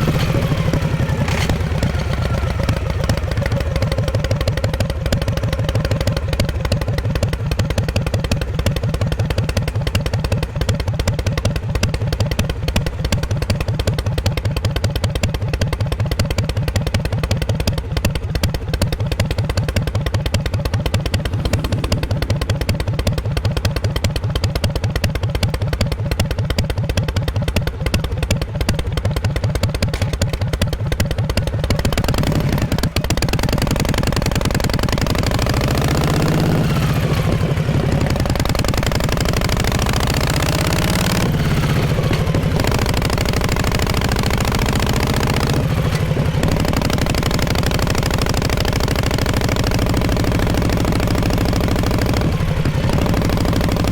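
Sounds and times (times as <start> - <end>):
motorcycle exhaust revving: 0.0 - 53.9.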